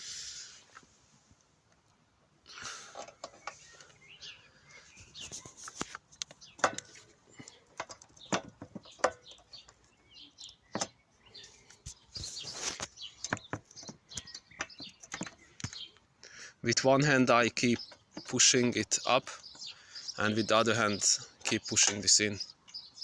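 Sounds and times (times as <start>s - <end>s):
birds chirping: 2.4s - 23.0s.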